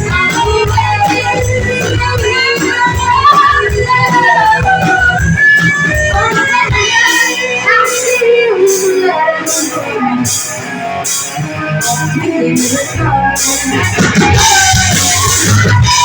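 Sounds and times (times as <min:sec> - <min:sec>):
bass guitar: 0:00.0 - 0:16.0
drums with cymbals: 0:00.0 - 0:16.0
electric guitar: 0:00.0 - 0:16.0.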